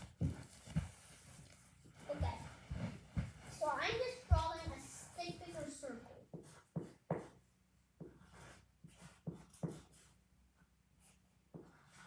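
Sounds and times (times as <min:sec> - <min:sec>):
markers scratching on cardboard: 0:00.0 - 0:10.2, 0:11.0 - 0:12.0.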